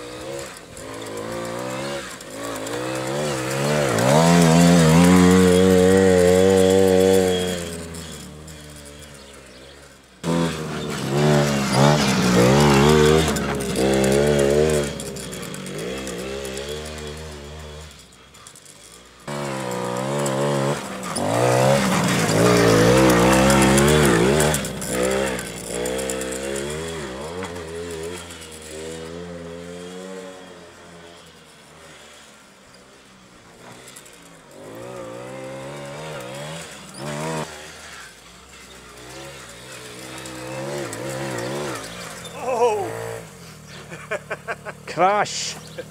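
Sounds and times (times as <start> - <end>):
quad bike engine revving: 0.0 - 45.9.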